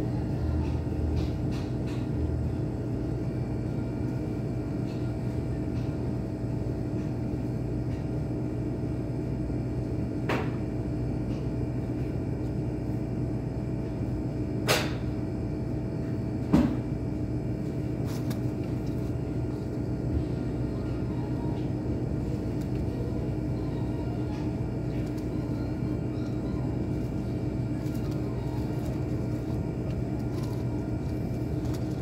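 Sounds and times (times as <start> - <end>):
faint hum: 0.0 - 32.0.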